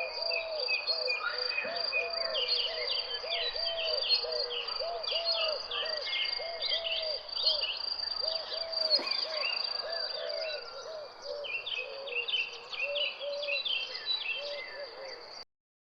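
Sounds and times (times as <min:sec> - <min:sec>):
birds calling and chirping: 0:00.0 - 0:15.4.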